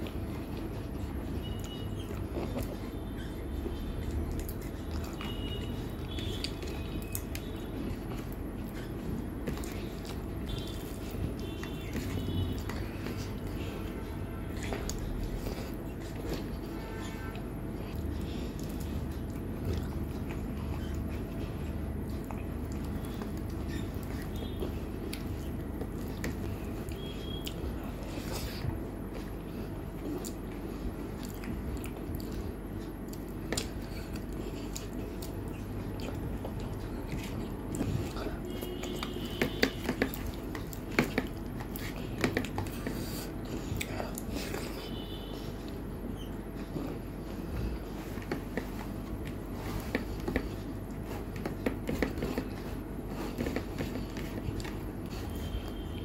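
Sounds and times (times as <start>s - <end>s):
chewing food: 0.0s - 56.0s
fingers mixing rice on plate: 3.6s - 55.7s.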